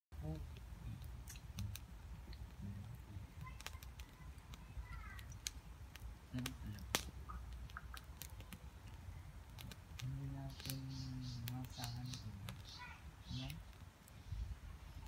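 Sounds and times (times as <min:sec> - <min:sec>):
wood fire crackling: 0:00.2 - 0:15.0
sharp pops: 0:00.9 - 0:13.9.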